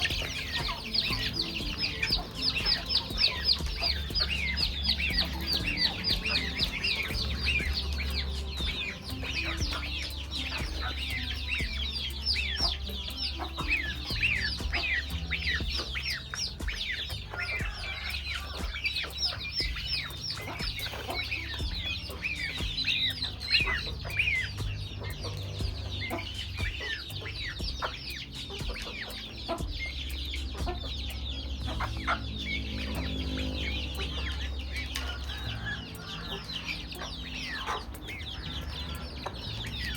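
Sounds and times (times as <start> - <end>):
chickens clucking: 0.0 - 39.9
high peeping calls: 0.0 - 39.9
steady low hum: 0.0 - 39.9.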